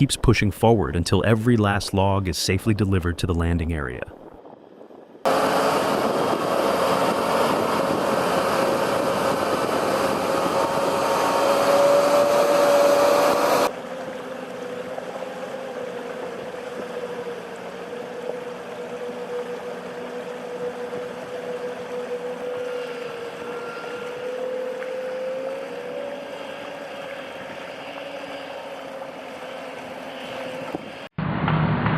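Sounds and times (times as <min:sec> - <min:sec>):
heavy engine droning: 0:04.9 - 0:31.9.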